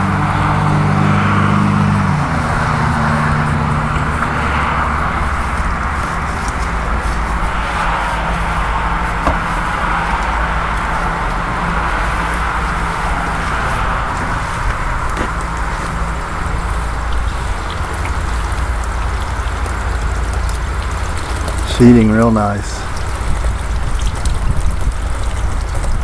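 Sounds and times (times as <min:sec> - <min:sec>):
low steady hum: 0:00.0 - 0:26.0
water spraying on window glass: 0:00.0 - 0:26.0.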